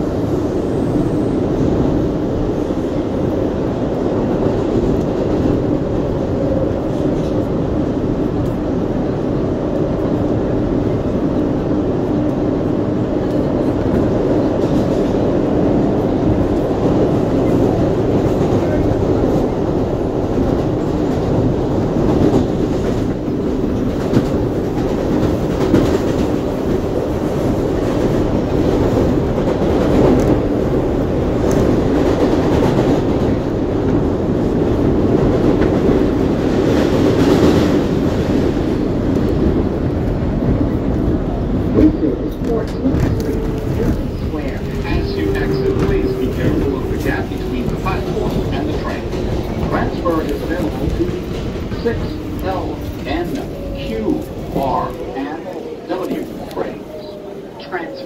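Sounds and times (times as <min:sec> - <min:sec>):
subway wheels rumbling on rails: 0:00.0 - 0:58.0.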